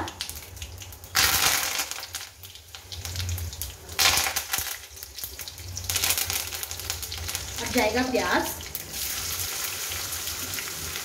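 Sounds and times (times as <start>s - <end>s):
leaves sizzling in hot oil: 0.0s - 11.0s.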